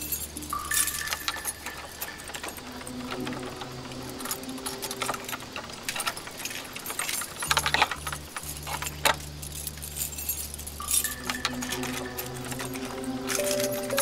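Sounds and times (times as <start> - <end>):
keys jangling: 0.0 - 14.0
low steady hum: 0.0 - 14.0
metallic clicks: 0.0 - 14.0.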